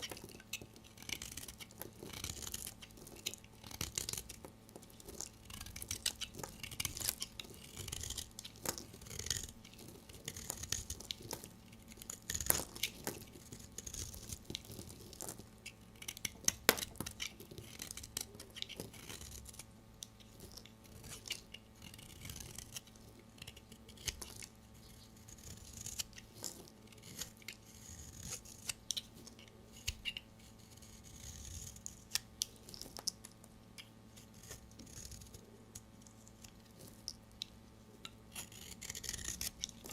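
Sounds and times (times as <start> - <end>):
knife cutting through soap: 0.0 - 33.2, 34.2 - 37.1, 38.1 - 39.9.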